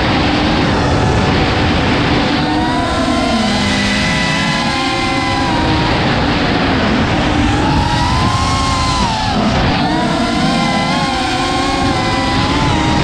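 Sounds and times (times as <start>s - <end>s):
drone motors whining: 0.0s - 13.0s
rush of air noise: 0.0s - 13.0s.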